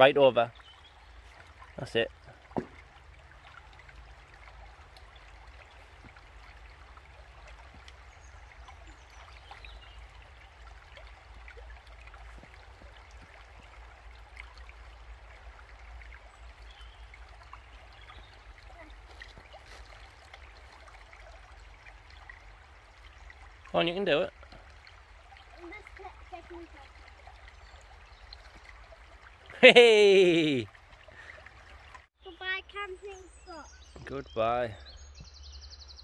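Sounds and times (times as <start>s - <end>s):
stream rushing and trickling: 0.0s - 36.0s.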